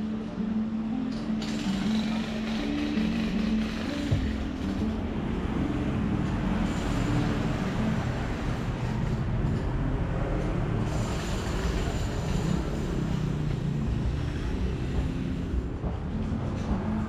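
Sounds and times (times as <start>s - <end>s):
road noise: 0.0s - 17.0s
vehicle engine running: 1.4s - 17.0s.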